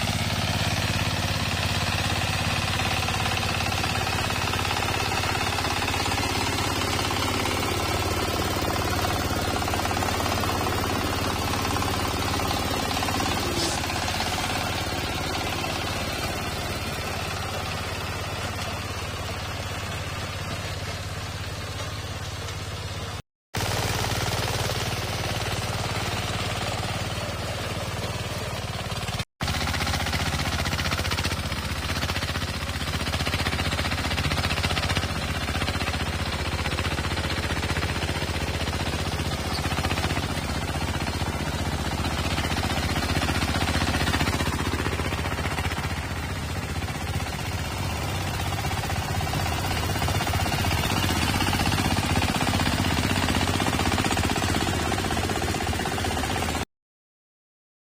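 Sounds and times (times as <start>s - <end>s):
small diesel engine running: 0.0s - 56.7s.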